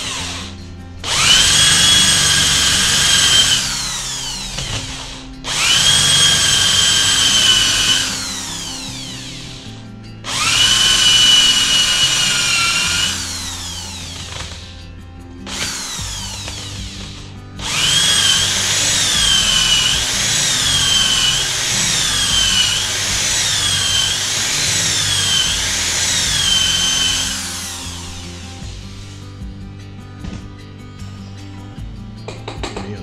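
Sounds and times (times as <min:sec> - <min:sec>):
electric drill boring into wood: 0:00.0 - 0:29.2.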